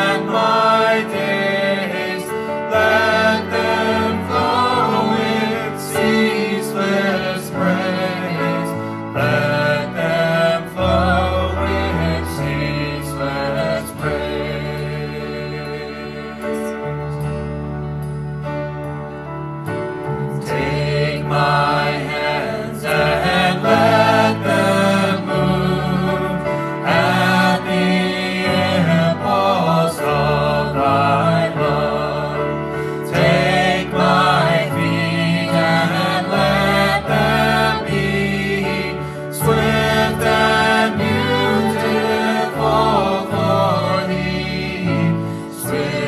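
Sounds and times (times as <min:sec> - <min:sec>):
group of voices singing: 0:00.0 - 0:17.6, 0:19.9 - 0:46.0
band playing sustained chords: 0:00.0 - 0:46.0.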